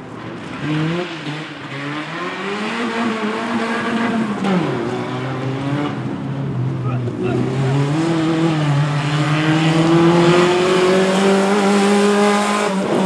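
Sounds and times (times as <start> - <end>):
car engine revving under acceleration: 0.3 - 13.0.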